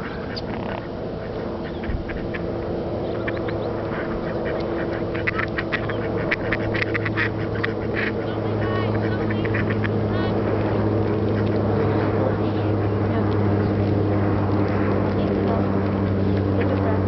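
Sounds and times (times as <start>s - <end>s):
steady low hum: 0.0s - 17.0s
waterbirds calling: 0.0s - 17.0s.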